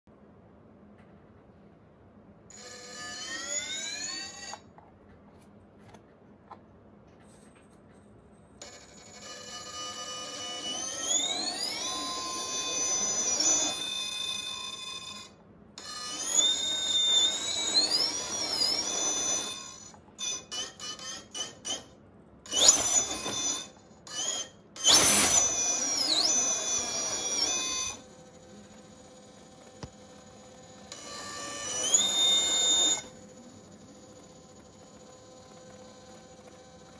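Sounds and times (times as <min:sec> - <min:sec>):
electric motor whining: 0:02.5 - 0:04.6, 0:08.6 - 0:36.9.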